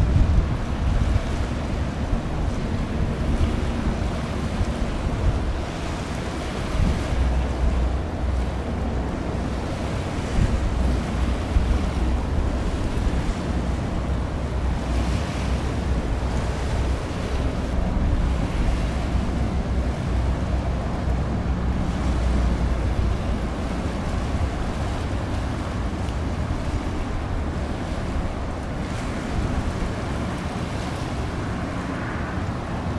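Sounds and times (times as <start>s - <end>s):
choppy sea water: 0.0s - 32.9s
wind buffeting microphone: 0.0s - 32.9s.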